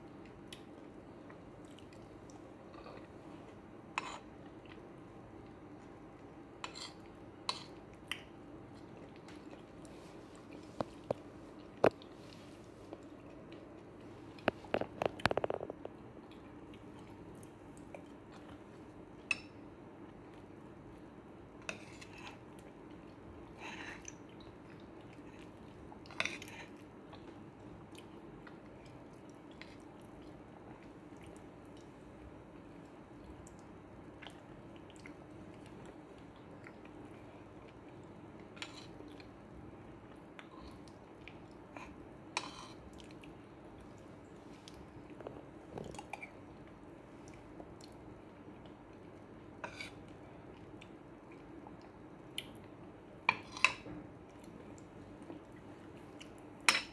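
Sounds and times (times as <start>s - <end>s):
soft chewing and mouth sounds: 0.0s - 56.9s.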